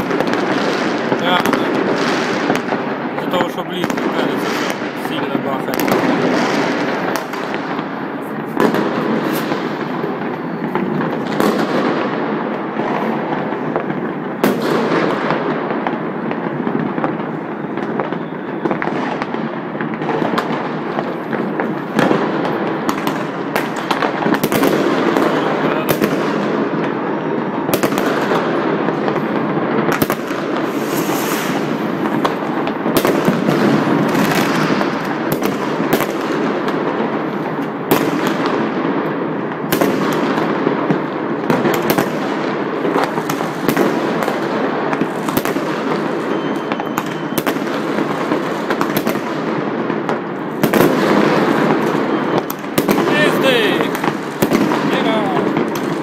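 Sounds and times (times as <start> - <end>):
firecrackers crackling: 0.0 - 56.0
fireworks rockets: 0.0 - 56.0.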